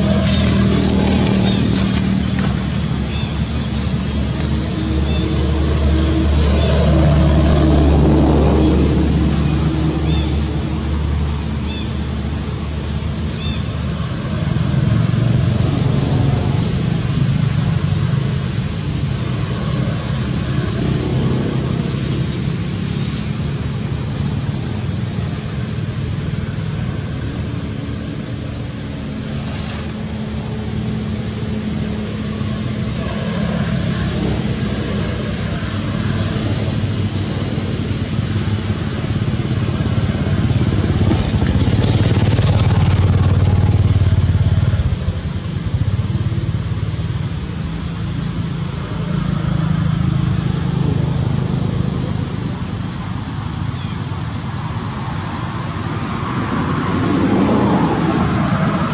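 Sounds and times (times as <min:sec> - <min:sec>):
low motor drone: 0:00.0 - 0:58.9.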